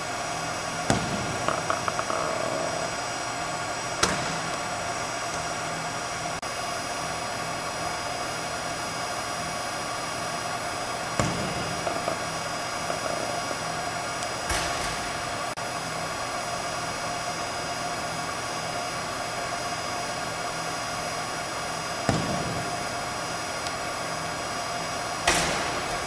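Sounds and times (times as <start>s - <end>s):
ventilation hiss and hum: 0.0s - 26.0s.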